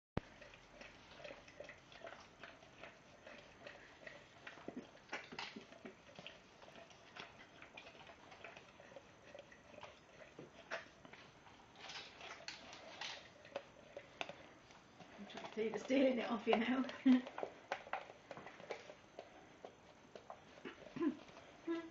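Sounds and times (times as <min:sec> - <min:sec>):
dog tongue clicking on plastic pot: 0:00.2 - 0:21.5.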